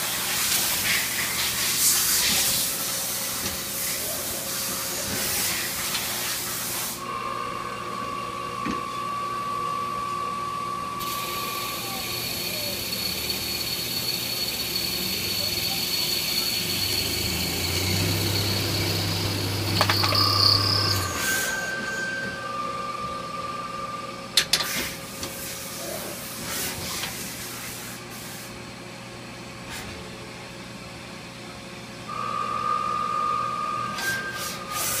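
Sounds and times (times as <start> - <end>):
lathe spindle hum and whine: 2.6 - 26.4, 30.8 - 35.0.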